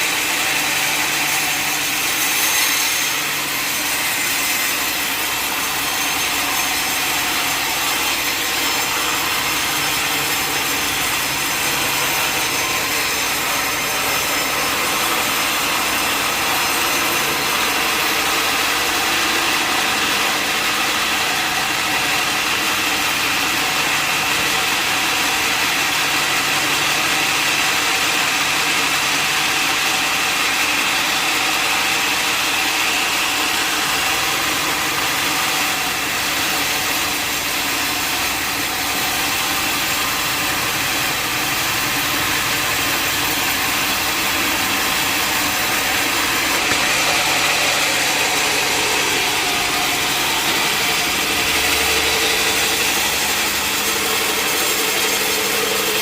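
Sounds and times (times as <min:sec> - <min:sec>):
saw blade rasping through log: 0:00.0 - 0:56.0.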